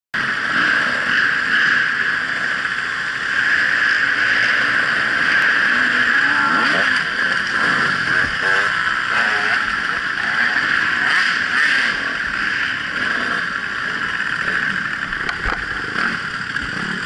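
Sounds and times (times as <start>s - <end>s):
dirt bike engine buzzing: 0.2s - 17.0s.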